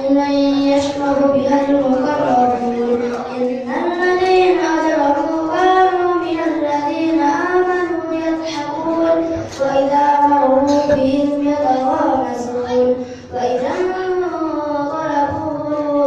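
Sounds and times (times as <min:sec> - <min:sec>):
child reciting melodically: 0:00.0 - 0:16.0.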